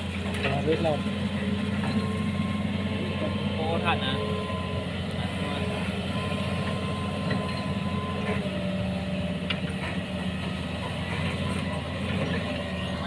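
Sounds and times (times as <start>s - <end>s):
diesel engine running: 0.0s - 13.0s
faint whining tones: 0.5s - 13.0s.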